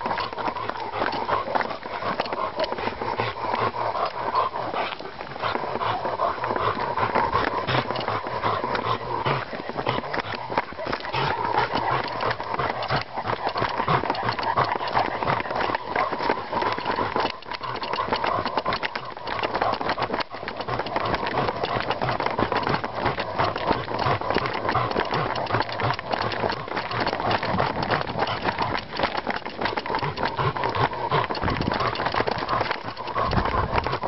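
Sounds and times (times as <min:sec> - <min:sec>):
running footsteps on forest floor: 0:00.0 - 0:34.0.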